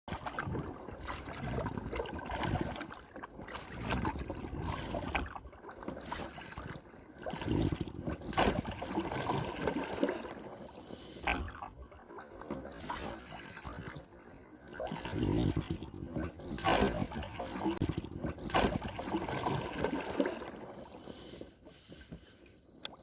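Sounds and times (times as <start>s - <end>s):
water and wind around boat: 0.1s - 23.0s.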